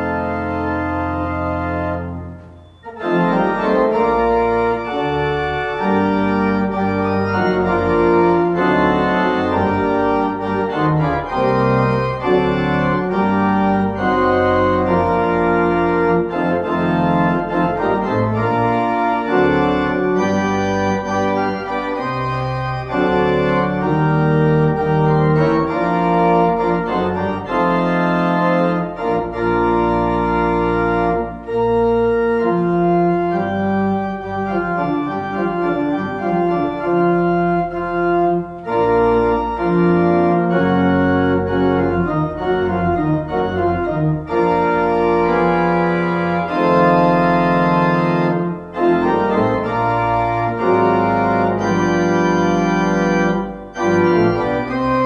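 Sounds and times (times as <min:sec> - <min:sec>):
organ music slow chords: 0:00.0 - 0:55.0.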